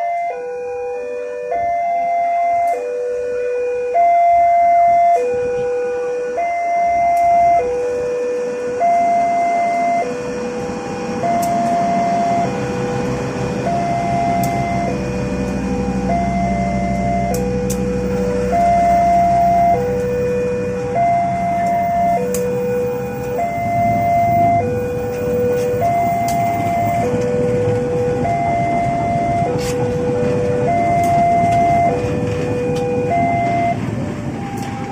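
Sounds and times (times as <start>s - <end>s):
passing vehicle rumble: 0.0s - 34.9s
two-tone electronic alarm: 0.0s - 34.9s.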